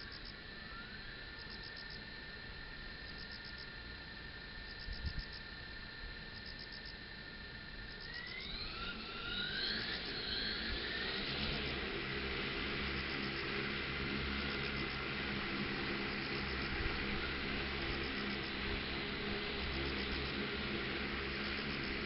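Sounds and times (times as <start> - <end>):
crickets chirping: 0.0 - 22.0
drone motors whining: 0.0 - 22.0.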